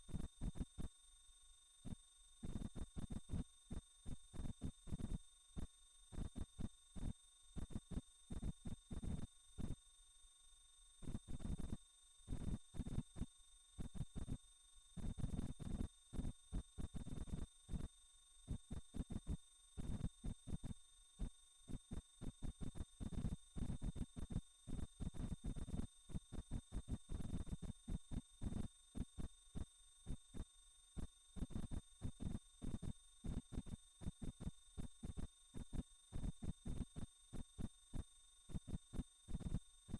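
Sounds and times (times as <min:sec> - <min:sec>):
pulsing high sine tone: 0:00.0 - 0:39.9.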